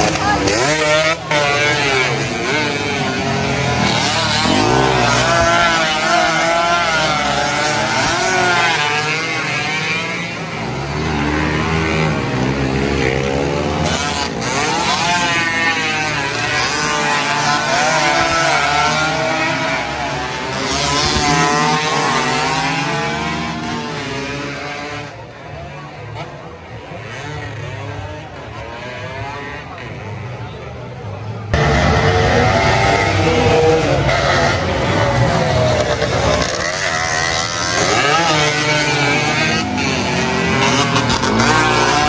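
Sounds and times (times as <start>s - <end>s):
motorcycles racing past: 0.0s - 42.0s.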